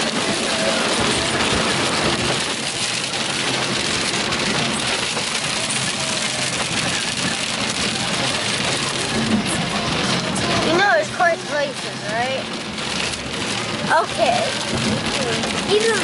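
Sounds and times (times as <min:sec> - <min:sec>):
car driving: 0:00.0 - 0:16.0
heavy rain on car roof: 0:00.0 - 0:16.0.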